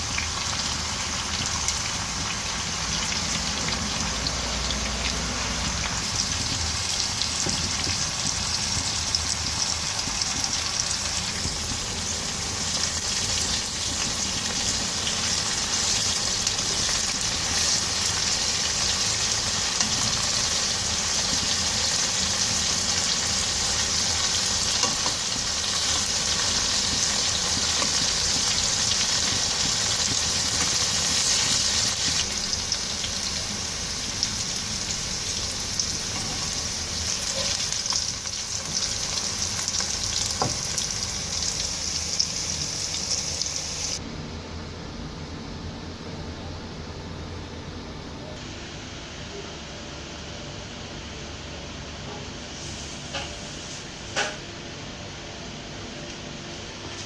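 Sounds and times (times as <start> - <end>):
chicken sizzling in a pan: 0.0 - 44.0, 52.5 - 54.4.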